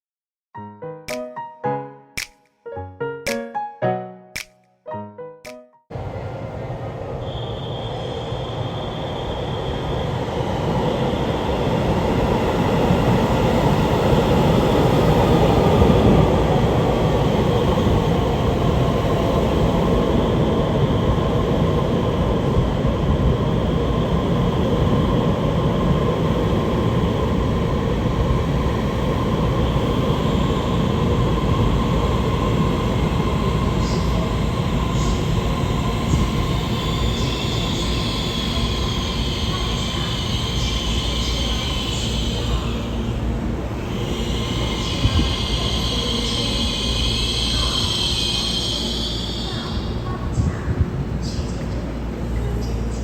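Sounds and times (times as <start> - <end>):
train wheels on rails: 6.0 - 53.0.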